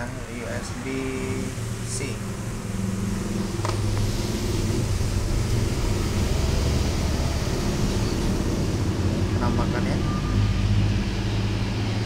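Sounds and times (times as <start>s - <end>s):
low mechanical hum with hiss: 0.0s - 10.7s.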